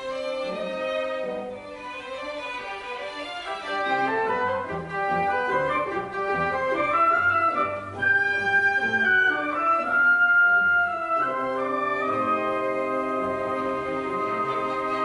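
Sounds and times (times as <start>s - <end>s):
orchestra playing: 0.0s - 15.0s.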